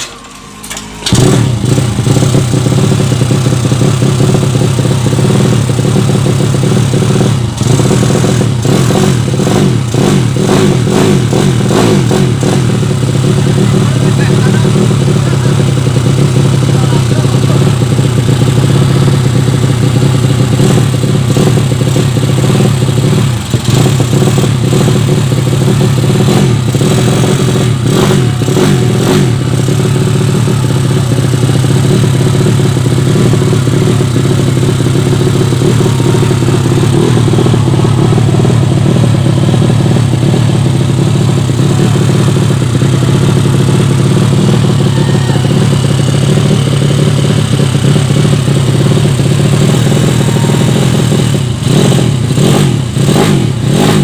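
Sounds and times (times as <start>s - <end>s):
motorcycle engine running: 0.9s - 54.0s.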